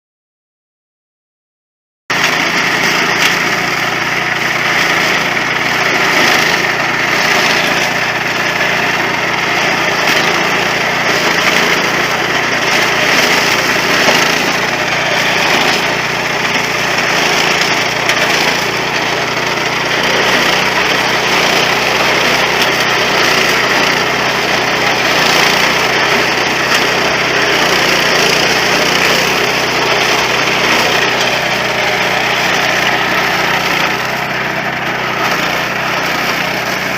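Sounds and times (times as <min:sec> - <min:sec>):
small engine running: 0:02.1 - 0:36.9.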